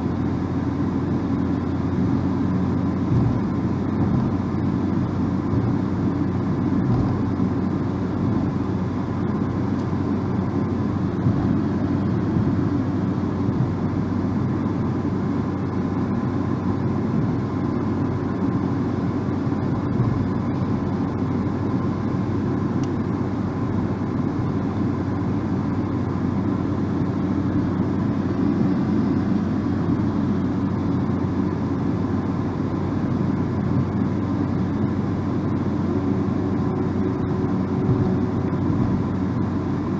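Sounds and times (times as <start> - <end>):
car driving at road speed: 0.0 - 39.9.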